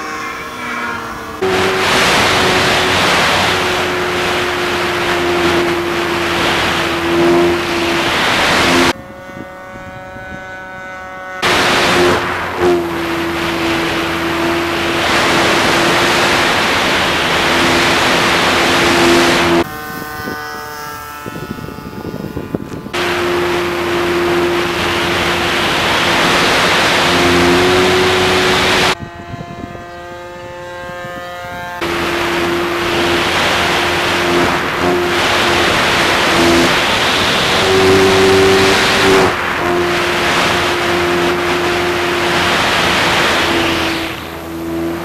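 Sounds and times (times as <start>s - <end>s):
electric motor and propeller drone: 0.0s - 45.0s
wind rushing over microphone: 0.0s - 45.0s.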